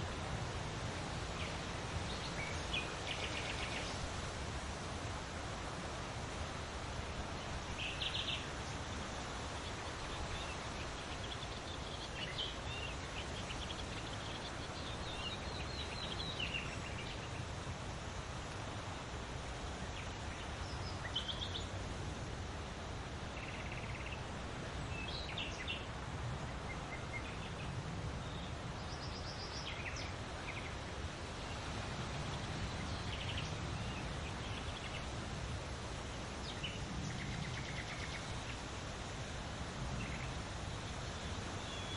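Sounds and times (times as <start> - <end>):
wind rustling through leaves: 0.0 - 41.9
small birds chirping: 0.9 - 4.2, 7.1 - 21.8, 23.2 - 39.1, 39.9 - 41.9.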